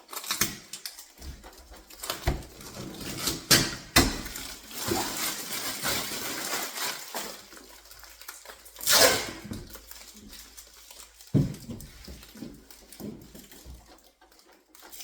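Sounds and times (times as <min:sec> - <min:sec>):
unpacking rustling: 0:00.0 - 0:15.0.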